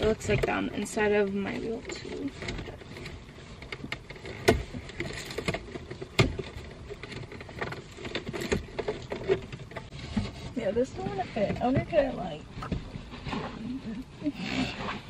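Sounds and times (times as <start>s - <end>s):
rustling inside a car: 0.0s - 15.0s.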